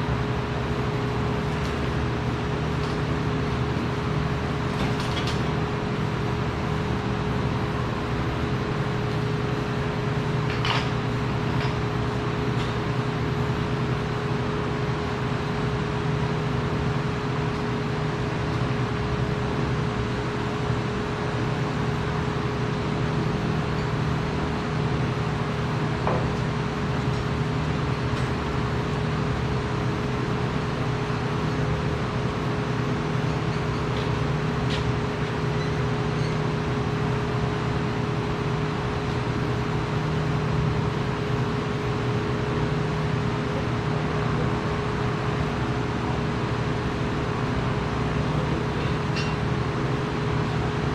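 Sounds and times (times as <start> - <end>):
machinery humming: 0.0 - 50.9.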